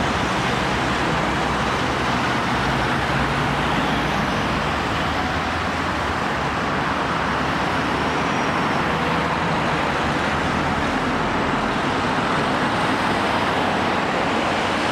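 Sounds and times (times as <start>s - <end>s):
road traffic rush: 0.0s - 14.9s.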